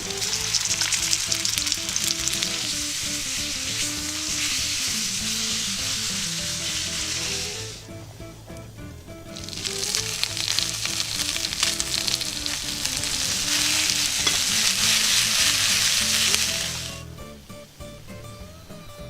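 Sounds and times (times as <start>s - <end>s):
food sizzling in a frying pan: 0.0s - 7.9s, 9.3s - 18.8s.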